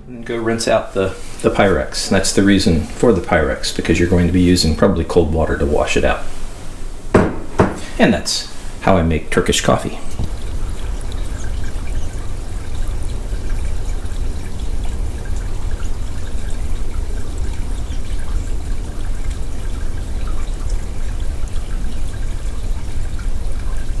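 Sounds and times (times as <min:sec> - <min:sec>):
tap water running into sink: 0:00.2 - 0:24.0.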